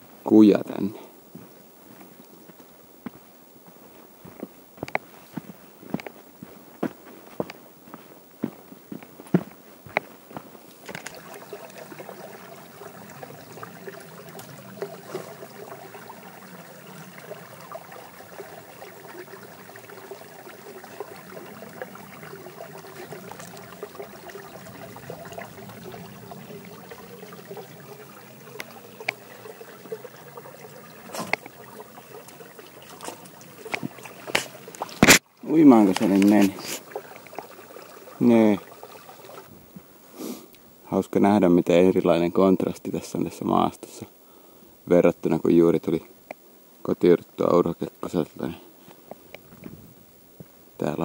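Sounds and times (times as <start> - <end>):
stream water trickling: 3.9 - 51.0.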